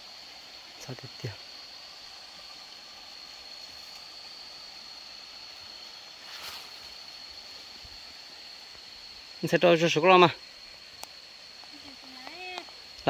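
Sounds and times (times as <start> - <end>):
faint outdoor hiss: 0.0 - 13.0
high-pitched insect whine: 0.0 - 13.0
rustle: 0.0 - 13.0.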